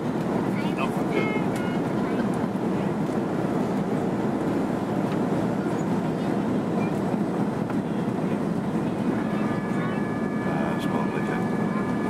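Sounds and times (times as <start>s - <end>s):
aircraft engine rumble: 0.0s - 12.0s.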